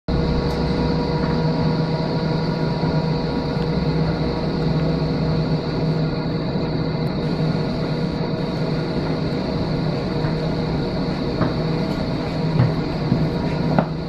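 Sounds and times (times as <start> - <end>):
diesel locomotive engines humming: 0.1 - 14.0.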